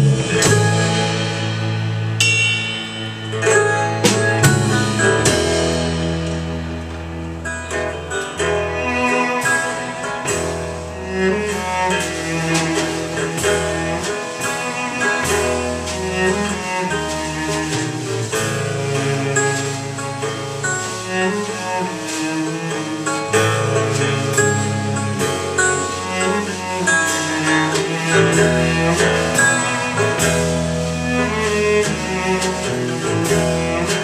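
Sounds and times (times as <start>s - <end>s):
bowed low string notes: 0.0s - 34.0s
strummed and plucked guitar: 0.0s - 34.0s.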